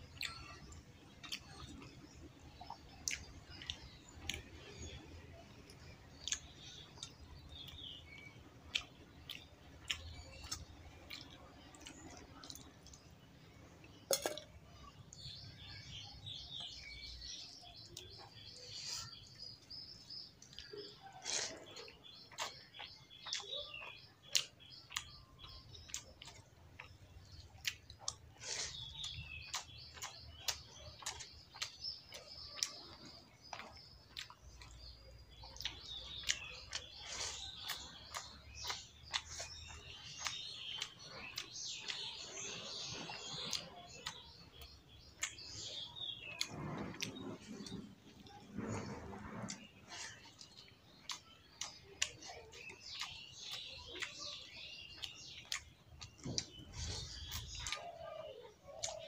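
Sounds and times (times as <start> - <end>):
chewing and smacking mouth sounds: 0.0 - 15.9, 16.6 - 59.0
birds chirping: 0.0 - 59.0.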